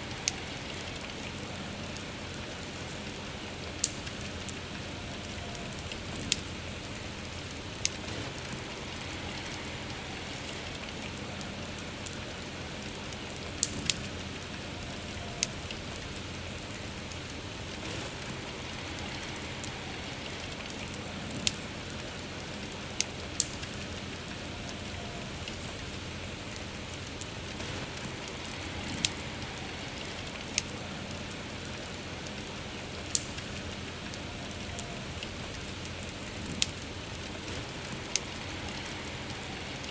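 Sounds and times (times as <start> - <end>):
soft rainfall: 0.0 - 39.9
wood fire crackling and popping: 0.0 - 39.9.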